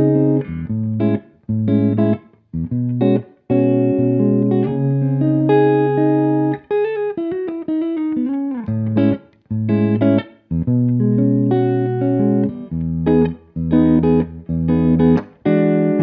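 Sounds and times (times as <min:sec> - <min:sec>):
jazz guitar playing: 0:00.0 - 0:16.0.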